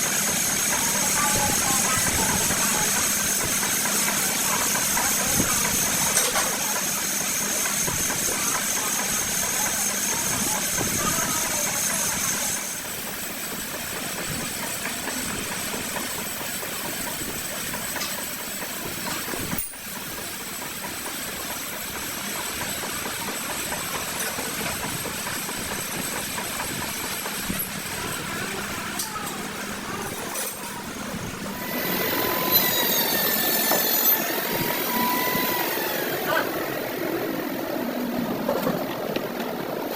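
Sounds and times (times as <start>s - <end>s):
lathe running: 0.0s - 39.7s.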